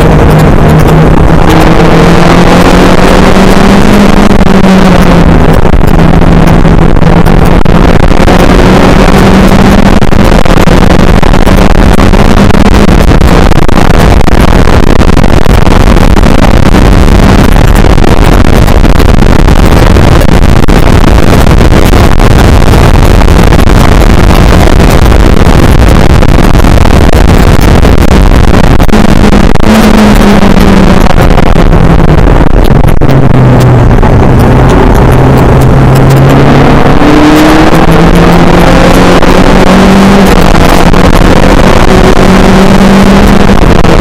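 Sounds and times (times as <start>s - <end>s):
race car engine drone: 0.0s - 44.0s
wind and road noise: 0.0s - 44.0s.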